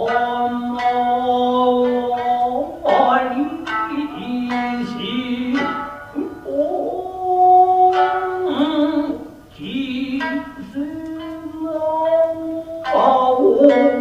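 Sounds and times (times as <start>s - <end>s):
plucked shamisen: 0.0s - 14.0s
singer holding wavering notes: 0.0s - 14.0s.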